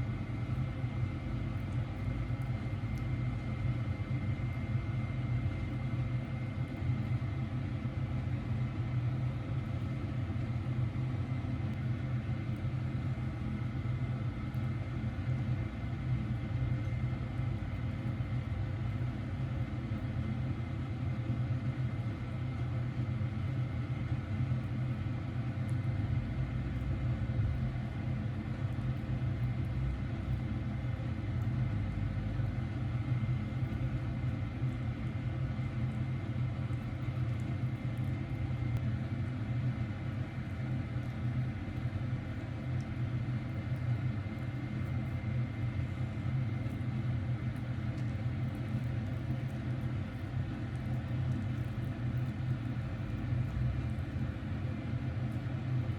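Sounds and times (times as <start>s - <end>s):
low machine hum: 0.0s - 55.9s.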